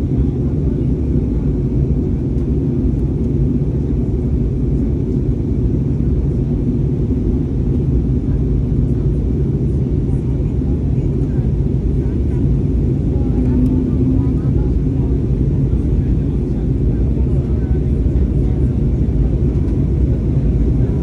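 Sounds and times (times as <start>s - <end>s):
airliner engine rumble in cabin: 0.0s - 21.0s
faint low drone: 0.0s - 21.0s.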